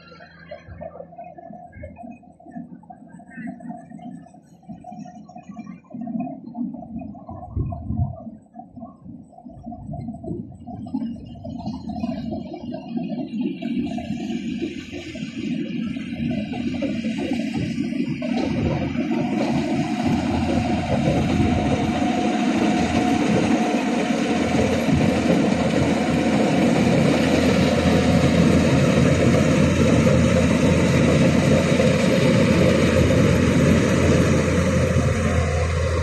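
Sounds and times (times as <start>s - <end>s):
combine harvester running: 0.0s - 7.8s, 10.8s - 36.0s.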